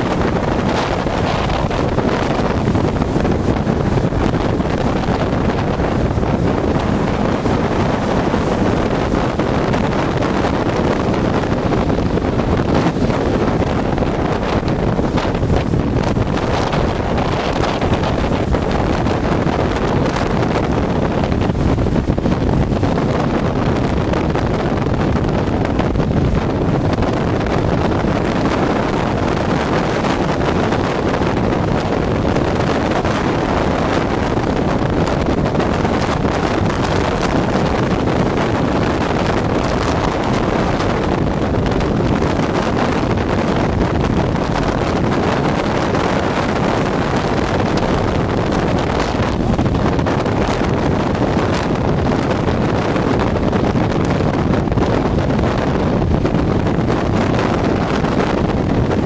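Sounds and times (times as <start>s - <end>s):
strong wind buffeting microphone: 0.0s - 59.0s.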